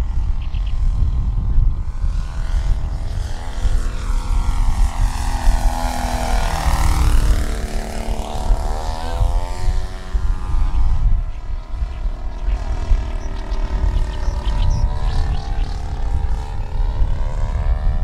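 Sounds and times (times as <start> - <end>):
model airplane engine passing: 0.0 - 18.0
wind rumble on microphone: 0.0 - 18.0.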